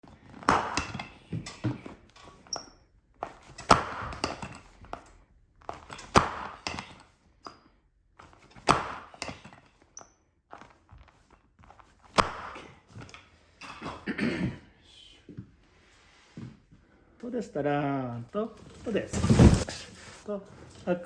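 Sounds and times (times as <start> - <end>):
clothing and table rustling: 0.0 - 14.0, 15.2 - 17.2, 18.2 - 21.0.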